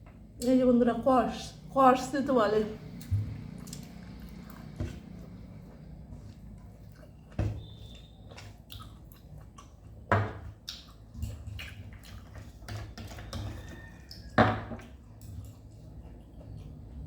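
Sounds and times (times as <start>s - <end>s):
person chewing food: 2.9s - 17.0s.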